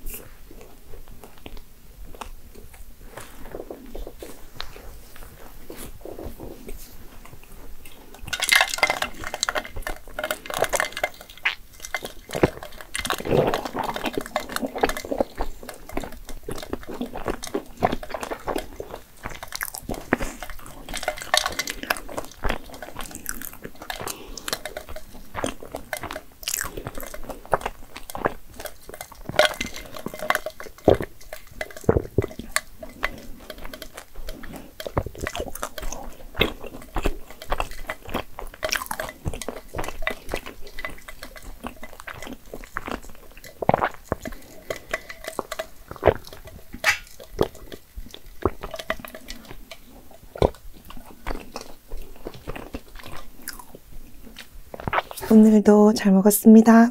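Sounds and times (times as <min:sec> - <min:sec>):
person chewing and crunching: 0:00.0 - 0:55.6.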